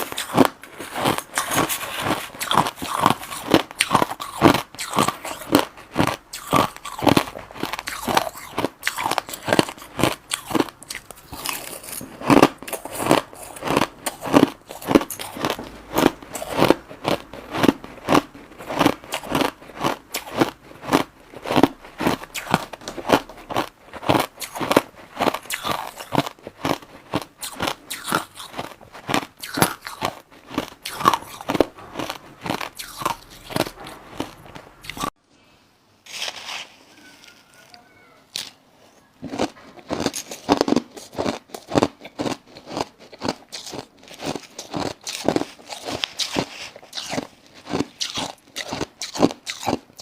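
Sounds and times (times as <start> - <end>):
ice being chewed: 0.0 - 35.2, 39.2 - 50.0.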